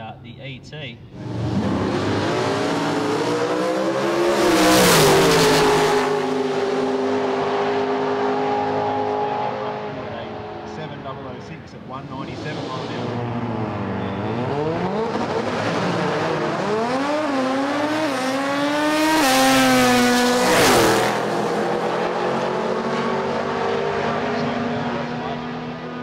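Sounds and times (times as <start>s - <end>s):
racing car engine at full throttle: 1.1s - 26.0s.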